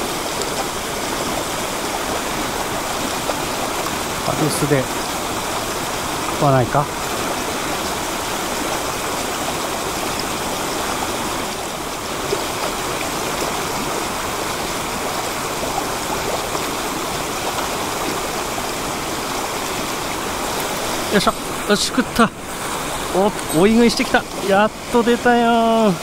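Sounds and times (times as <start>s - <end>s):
stream rushing over rocks: 0.0s - 26.0s
waterfall pouring into pool: 0.0s - 26.0s.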